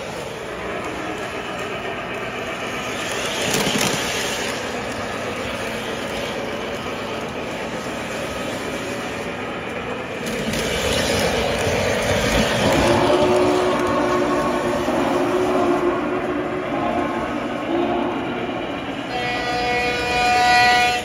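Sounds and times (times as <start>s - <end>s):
model trains rumbling on track: 0.0s - 21.0s.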